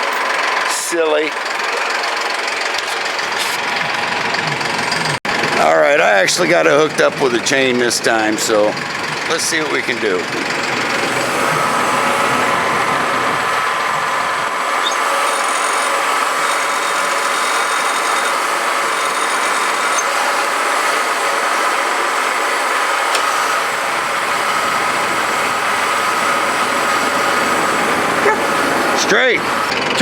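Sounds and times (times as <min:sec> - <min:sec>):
tractor engine under load: 0:00.0 - 0:30.0.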